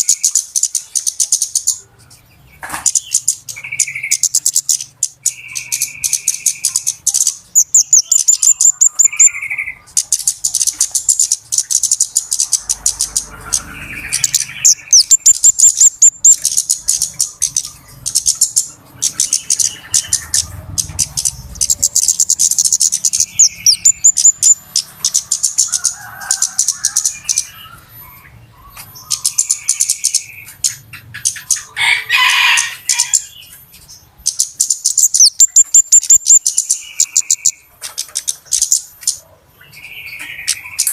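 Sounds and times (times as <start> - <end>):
high-pitched bird chirps and trills: 0.0 - 40.9.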